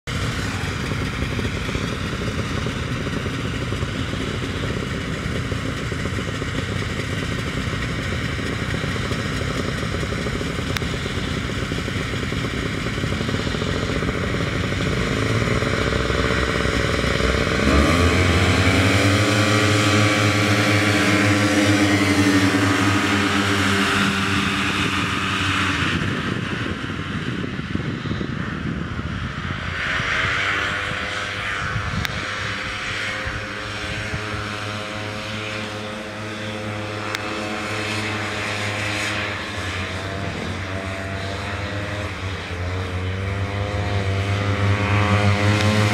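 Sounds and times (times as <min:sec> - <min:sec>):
snowmobiles revving and racing: 0:00.0 - 0:45.9
snowmobiles idling: 0:00.1 - 0:26.1, 0:32.1 - 0:43.1.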